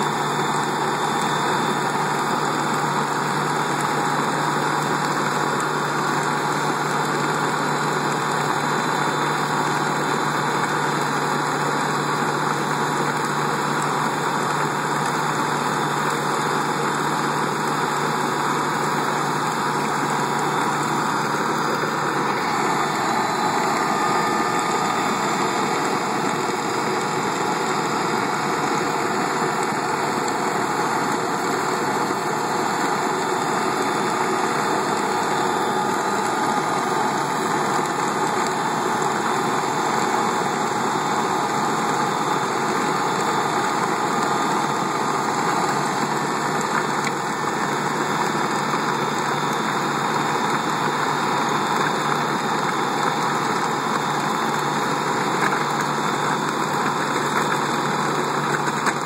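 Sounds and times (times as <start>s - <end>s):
digging chain and conveyor: 0.0s - 59.0s
tractor engine under load: 0.0s - 59.0s.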